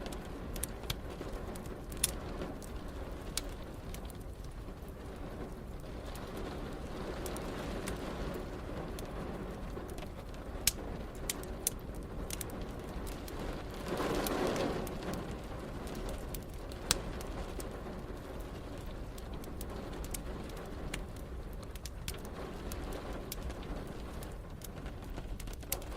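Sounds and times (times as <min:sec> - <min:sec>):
steady rain: 0:00.0 - 0:25.9
wood fire crackling and popping: 0:00.0 - 0:25.9.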